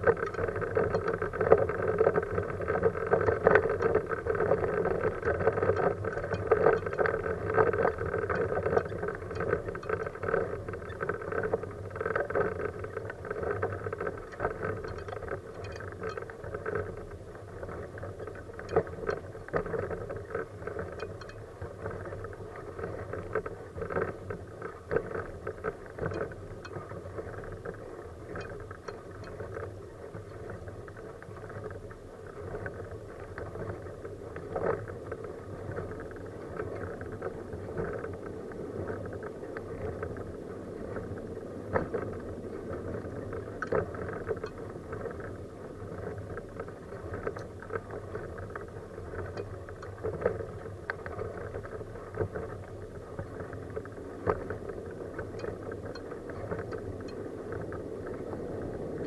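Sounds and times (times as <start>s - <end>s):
wheelchair rolling on asphalt: 0.0s - 59.0s.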